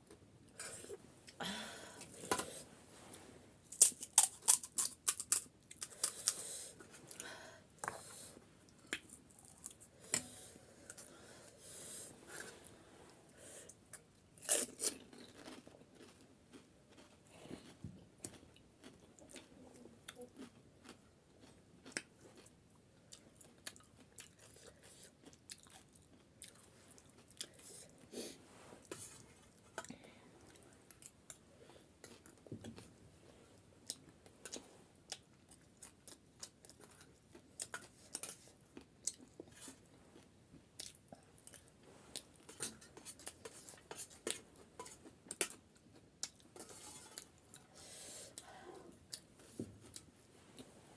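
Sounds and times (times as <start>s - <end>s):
chewing and crunching snack: 3.7s - 11.2s, 13.7s - 28.1s, 28.8s - 47.7s.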